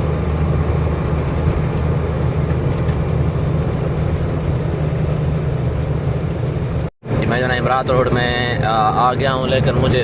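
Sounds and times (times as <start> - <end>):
road and tyre noise: 0.0 - 10.0
truck engine droning: 0.0 - 10.0.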